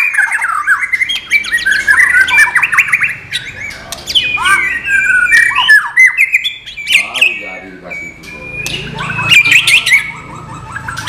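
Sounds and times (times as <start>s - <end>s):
bird singing chirps and whistles: 0.0s - 11.0s.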